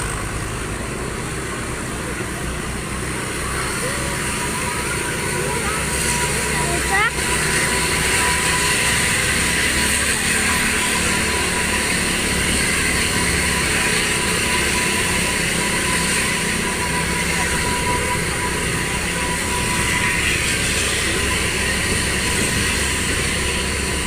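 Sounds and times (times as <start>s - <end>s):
vehicle rumble on the move: 0.0s - 24.0s.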